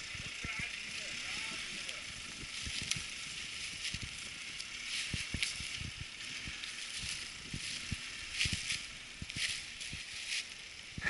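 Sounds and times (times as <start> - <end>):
steady hiss: 0.0 - 11.0
footsteps crunching dry leaves: 0.3 - 11.0.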